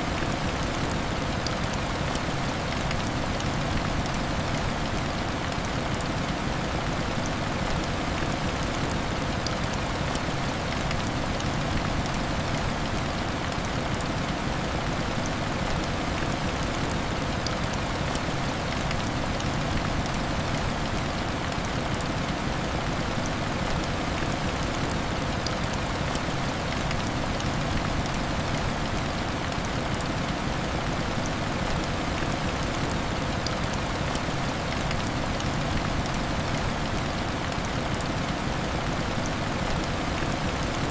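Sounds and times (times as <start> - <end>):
heavy rain falling: 0.0 - 40.9
ticks of raindrops: 0.0 - 40.9.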